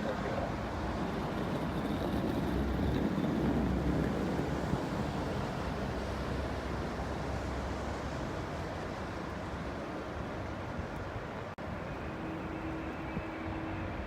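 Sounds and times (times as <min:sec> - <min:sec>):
rushing wind: 0:00.0 - 0:14.0.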